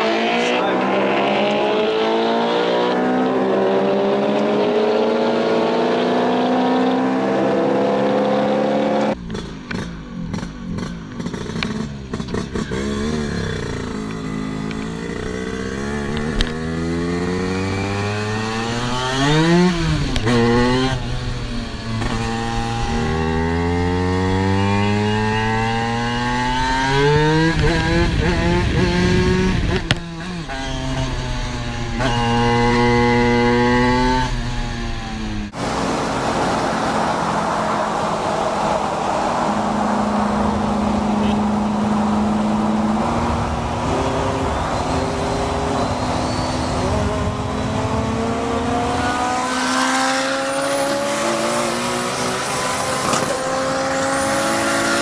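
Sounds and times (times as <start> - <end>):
scooter engine revving: 0.0 - 37.7, 39.9 - 55.0
car engine accelerating: 0.0 - 55.0.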